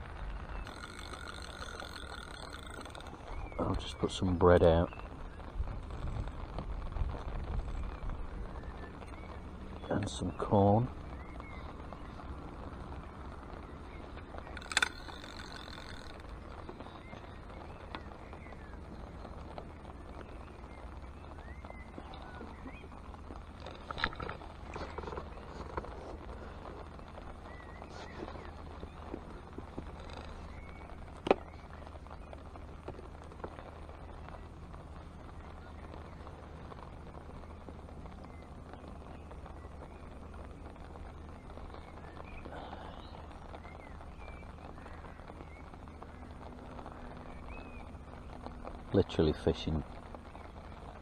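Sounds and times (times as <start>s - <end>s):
light rain falling: 0.0s - 51.0s
wind rumble on microphone: 0.0s - 51.0s.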